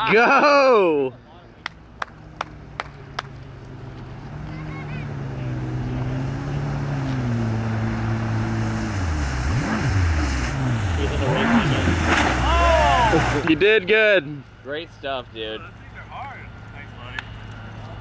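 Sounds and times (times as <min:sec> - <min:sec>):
jet ski engine: 0:02.3 - 0:16.9.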